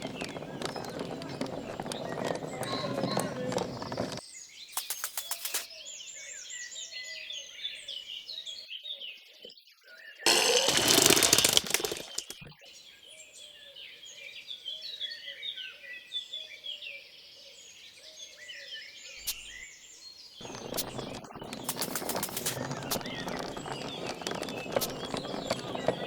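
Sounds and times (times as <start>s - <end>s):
small birds chirping: 0.0s - 10.2s, 11.9s - 26.0s.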